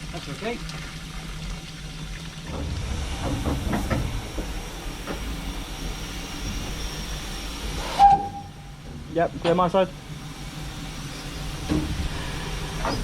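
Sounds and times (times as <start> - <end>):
low locomotive rumble: 0.0 - 13.0
steam hissing: 2.4 - 13.0.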